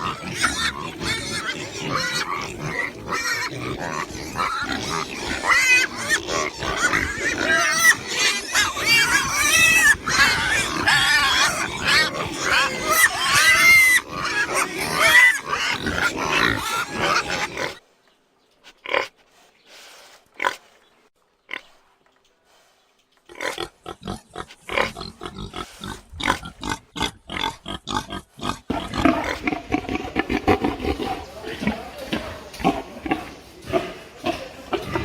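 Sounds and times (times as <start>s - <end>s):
pig grunts: 0.0s - 17.8s, 23.3s - 35.0s
pigs calling: 0.0s - 17.8s, 23.3s - 35.0s.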